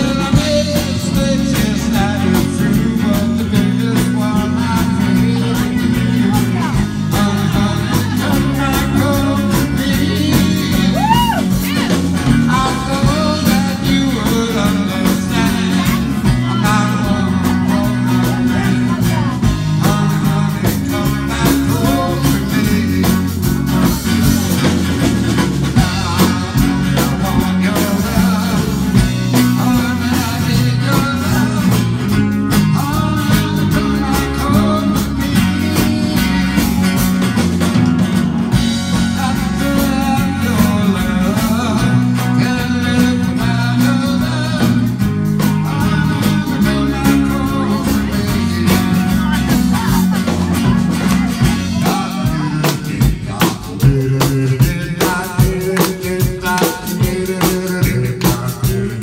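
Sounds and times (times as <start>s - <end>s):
person singing: 0.0s - 37.8s, 38.4s - 59.0s
drum kit: 0.0s - 59.0s
electric guitar: 0.0s - 59.0s.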